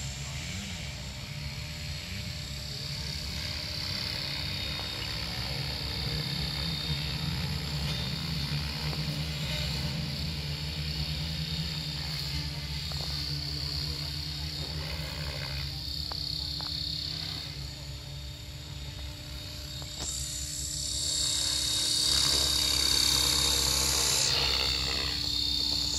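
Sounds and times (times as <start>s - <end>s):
distant model helicopter hum: 0.0s - 25.9s
insects chirring: 1.3s - 25.9s.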